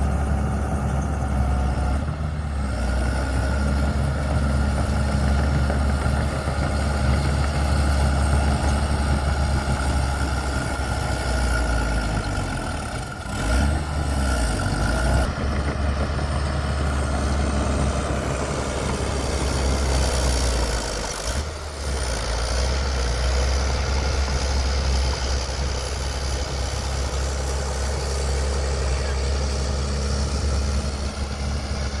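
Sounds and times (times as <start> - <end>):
bulldozer diesel engine humming: 0.0 - 32.0.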